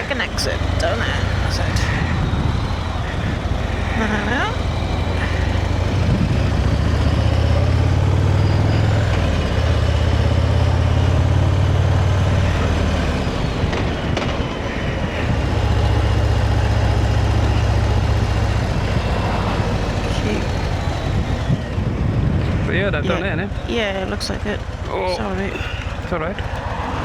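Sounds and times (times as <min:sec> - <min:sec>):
wind noise: 0:00.0 - 0:23.7
motorcycle engine drone: 0:00.0 - 0:27.0.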